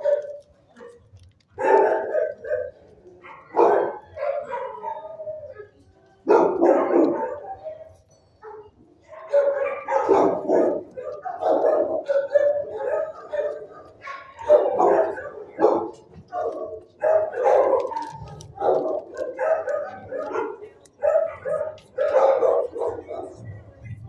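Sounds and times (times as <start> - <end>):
dogs barking and howling: 0.0 - 23.6.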